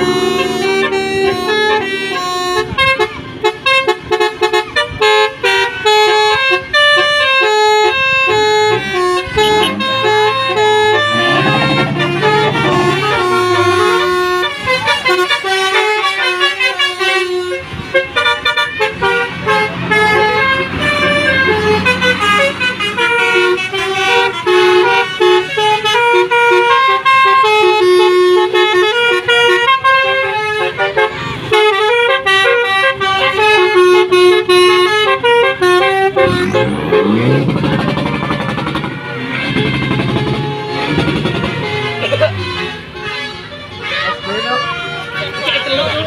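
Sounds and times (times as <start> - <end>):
multi-tone bus horn playing tune: 0.0 - 46.0.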